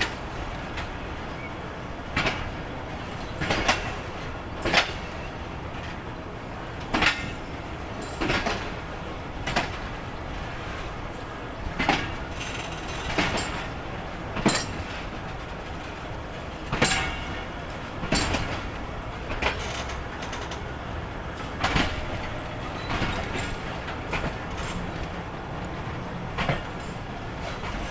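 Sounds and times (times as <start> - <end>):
train wheels clacking: 0.0 - 6.1, 6.7 - 27.9
train rolling rumble: 0.0 - 27.9.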